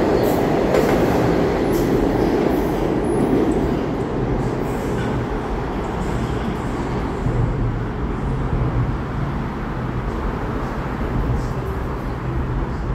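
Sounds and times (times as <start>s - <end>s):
city traffic rumble: 0.0s - 12.9s.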